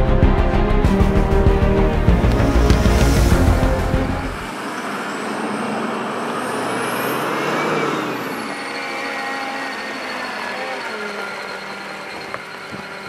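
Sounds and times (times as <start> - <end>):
high whine: 0.0 - 13.0
vehicle engine and tyres on gravel: 2.2 - 13.0.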